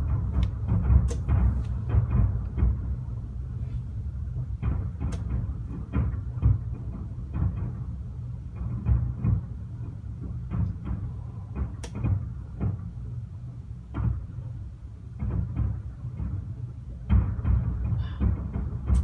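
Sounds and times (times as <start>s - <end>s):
fireworks booming: 0.0s - 14.5s, 15.1s - 19.0s.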